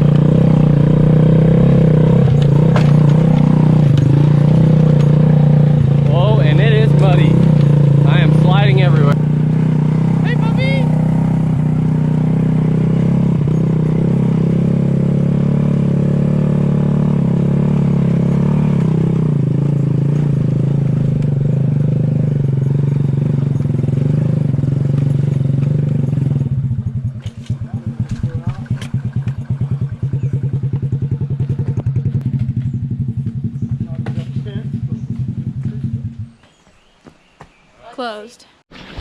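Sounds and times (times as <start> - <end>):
scooter engine running: 0.0 - 36.5.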